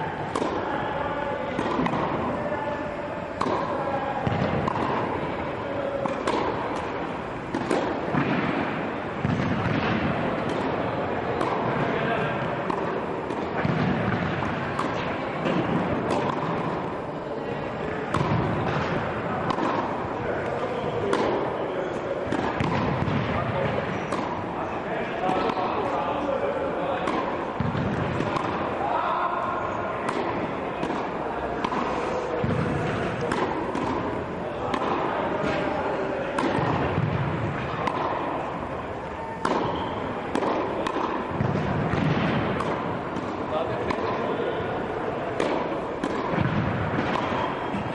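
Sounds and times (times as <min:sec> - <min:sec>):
steady background hum: 0:00.0 - 0:47.9
tennis balls struck by rackets: 0:00.1 - 0:02.6, 0:03.3 - 0:47.9.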